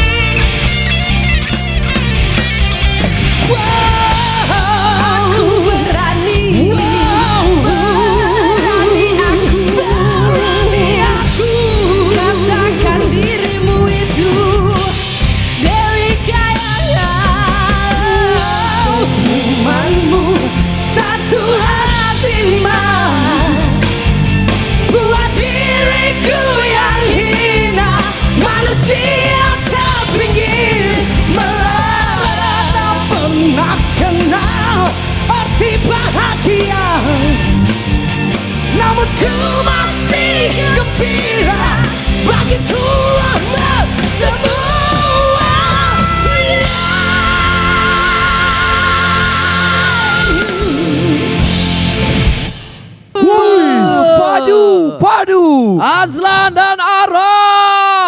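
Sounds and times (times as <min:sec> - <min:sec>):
live band playing rock-pop: 0:00.0 - 0:54.4.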